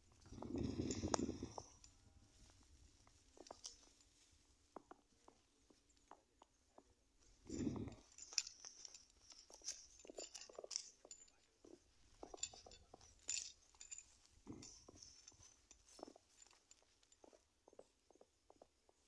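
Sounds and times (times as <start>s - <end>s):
small clicks and rustles: 0.0s - 19.0s.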